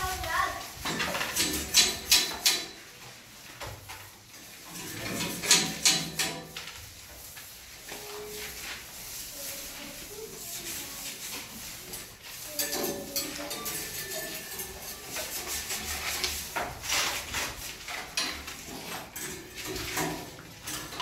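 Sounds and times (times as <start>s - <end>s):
paint roller rolling on wall: 0.0s - 21.0s.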